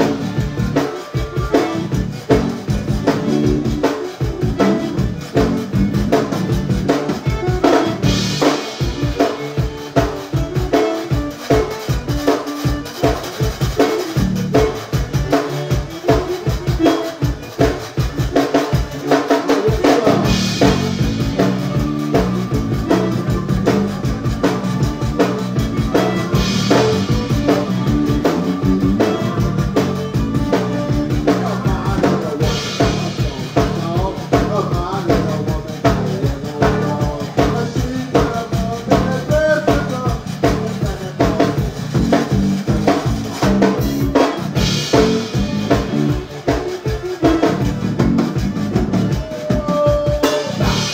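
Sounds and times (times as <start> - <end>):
bass line: 0.0 - 50.9
drum kit beat: 0.0 - 50.9
live band playing: 0.0 - 50.9.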